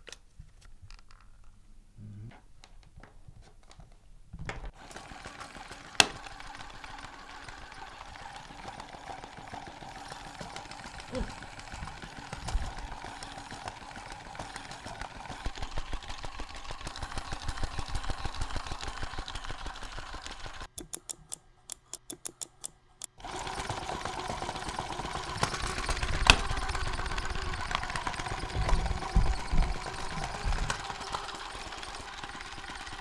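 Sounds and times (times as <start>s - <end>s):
small clicks of controls: 4.5s - 33.0s
toy motor and gears rattling: 4.8s - 33.0s.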